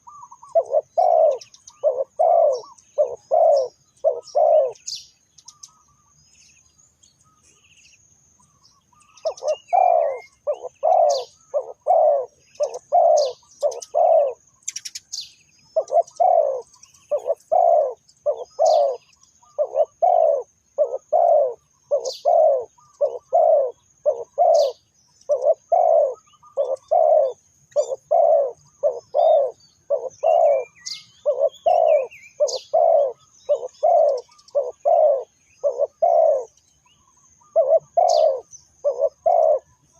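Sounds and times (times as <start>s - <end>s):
dove cooing: 0.0s - 6.1s, 9.0s - 15.0s, 15.8s - 39.9s
small birds chirping: 0.0s - 39.9s.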